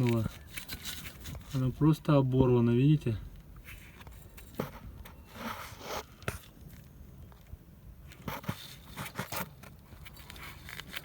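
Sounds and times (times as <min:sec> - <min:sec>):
handling clicks and scraping: 0:00.0 - 0:01.9, 0:03.3 - 0:11.0.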